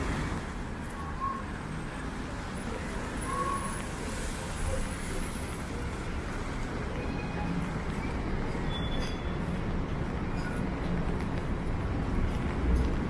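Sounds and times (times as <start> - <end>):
cars passing on wet street: 0.0 - 13.0.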